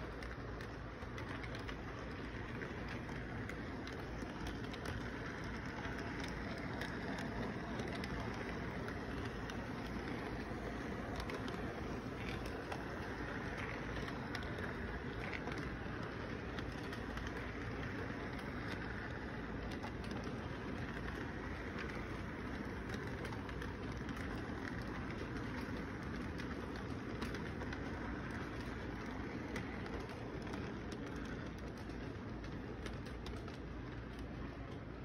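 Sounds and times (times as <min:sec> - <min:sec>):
model train rolling: 0:00.0 - 0:35.0
wheels clicking on track: 0:00.0 - 0:35.0.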